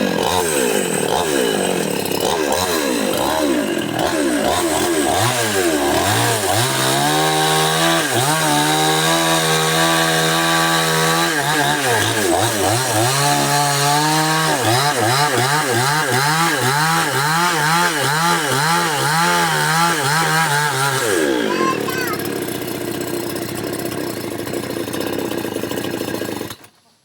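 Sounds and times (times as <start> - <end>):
chainsaw engine revving: 0.0 - 26.8.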